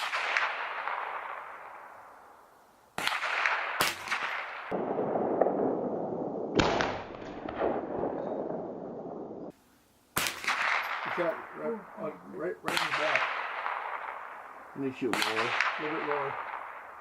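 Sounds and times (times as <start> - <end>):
rifle shots cracking: 0.0 - 1.9, 3.0 - 9.3, 10.2 - 11.5, 12.6 - 17.0.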